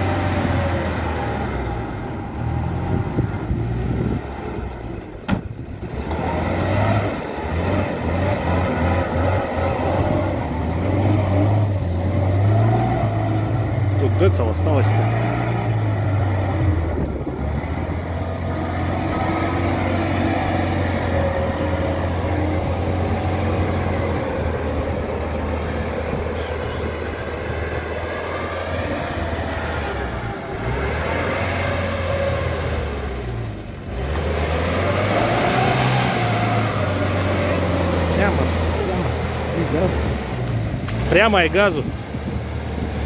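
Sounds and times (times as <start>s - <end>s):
van engine labouring: 0.0s - 43.0s.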